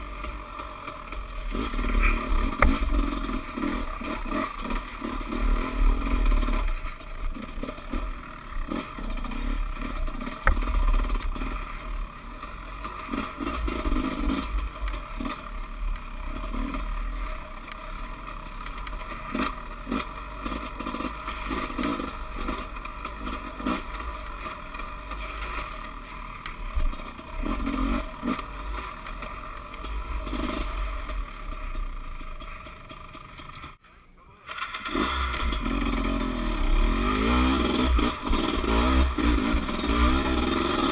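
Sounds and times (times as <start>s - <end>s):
dirt bike engine: 0.0s - 40.9s.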